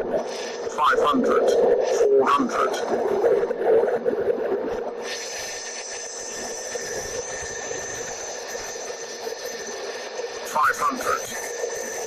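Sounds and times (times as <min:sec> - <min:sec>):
high steady whine: 0:00.0 - 0:12.0
cockpit airflow and engine hiss: 0:00.1 - 0:02.8, 0:04.9 - 0:12.0.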